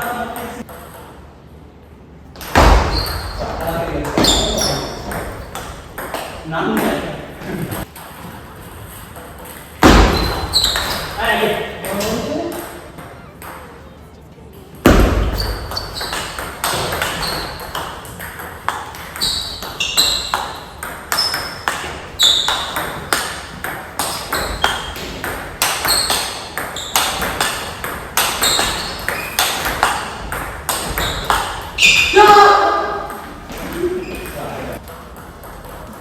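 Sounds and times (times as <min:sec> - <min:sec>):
table tennis ball pinging: 0:02.4 - 0:13.8, 0:14.8 - 0:36.0.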